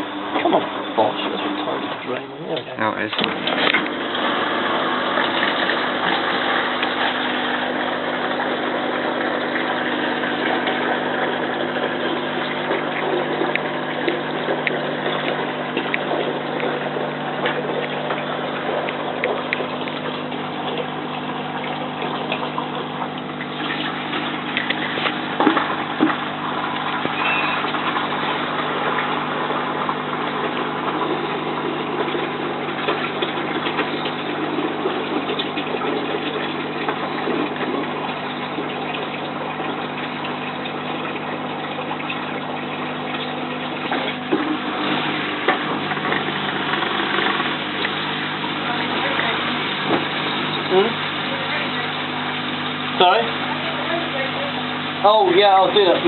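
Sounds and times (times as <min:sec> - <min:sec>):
drain pump humming: 0:00.0 - 0:56.0
rushing water: 0:03.1 - 0:56.0.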